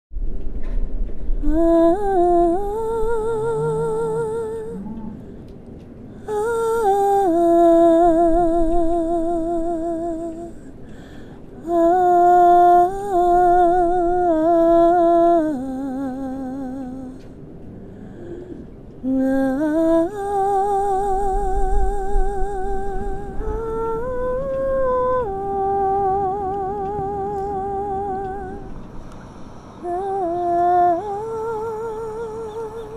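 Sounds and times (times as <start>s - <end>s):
woman humming: 1.4s - 5.3s, 6.2s - 10.7s, 11.6s - 17.3s, 18.3s - 28.7s, 29.8s - 32.9s.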